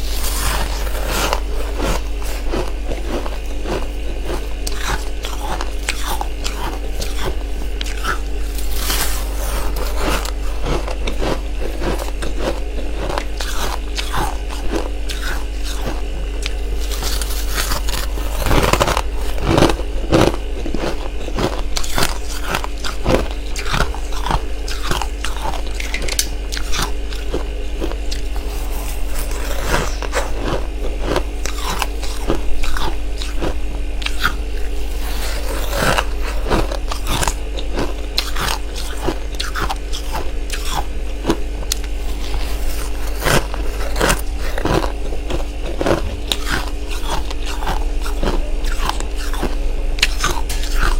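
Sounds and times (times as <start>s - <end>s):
chewing icy frost crunches: 0.0s - 50.9s.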